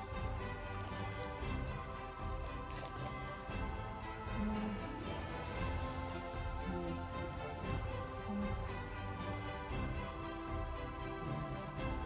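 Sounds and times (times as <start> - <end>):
music with jingle bells: 0.0 - 12.0.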